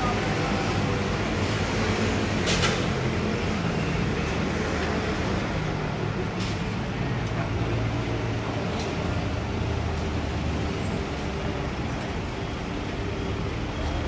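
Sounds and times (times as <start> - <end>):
street background rumble: 0.0 - 14.0.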